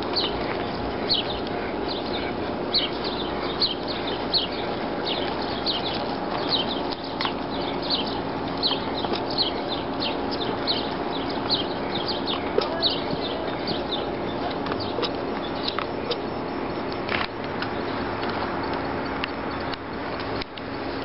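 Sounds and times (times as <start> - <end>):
bird chirping: 0.0 - 19.8
steady background hum: 0.0 - 21.0.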